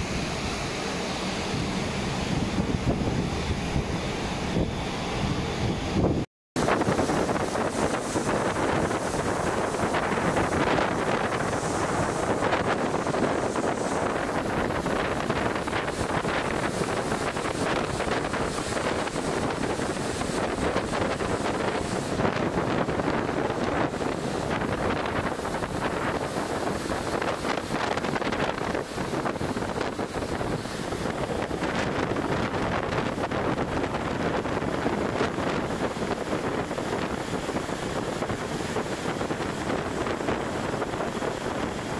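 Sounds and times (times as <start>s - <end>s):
foaming ship wake: 0.0s - 41.9s
rough sea breaking: 0.0s - 41.9s
wind blowing across microphone: 0.0s - 41.9s.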